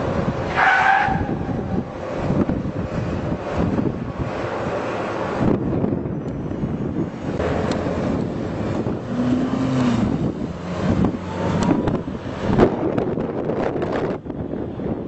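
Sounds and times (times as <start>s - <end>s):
street traffic: 0.0s - 15.0s
wind buffeting microphone: 0.0s - 15.0s.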